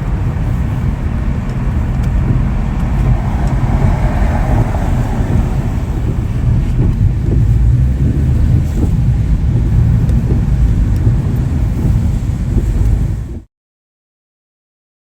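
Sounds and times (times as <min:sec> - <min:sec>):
car engine idling low: 0:00.0 - 0:13.4.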